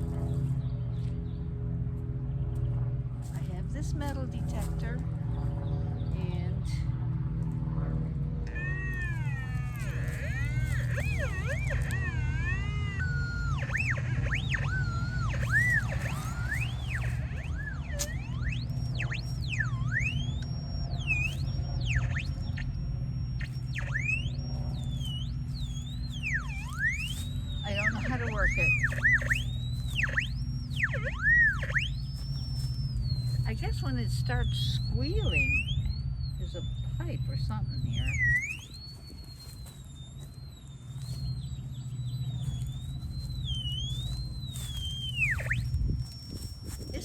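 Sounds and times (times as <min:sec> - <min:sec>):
low steady hum: 0:00.0 - 0:47.0
steady low rumble: 0:00.0 - 0:47.0
metal detector squealing: 0:03.3 - 0:05.0, 0:08.4 - 0:47.0.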